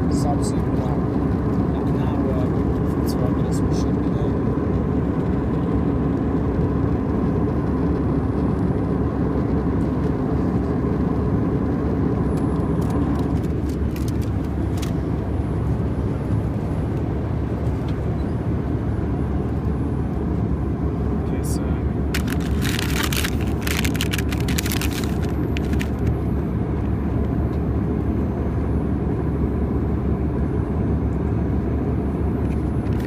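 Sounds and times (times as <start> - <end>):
airplane cabin engine drone: 0.0 - 33.0.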